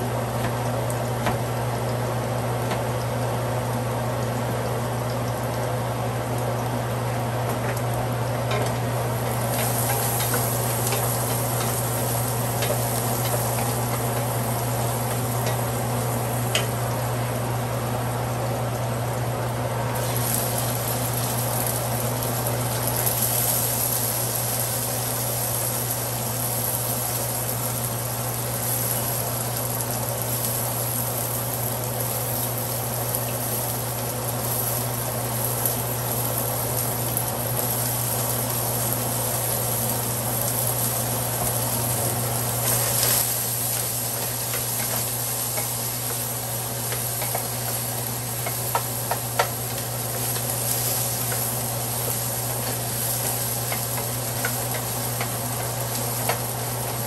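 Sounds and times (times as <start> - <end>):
constant low hum: 0.0 - 57.0
food sizzling in a pot: 0.0 - 57.0.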